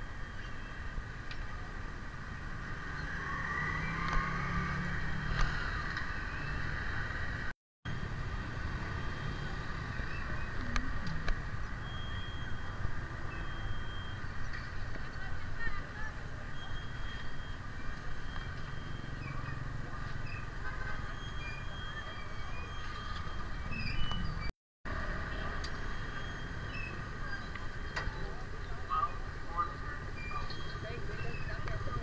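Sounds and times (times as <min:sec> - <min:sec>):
motorbike and car traffic: 0:00.0 - 0:32.0.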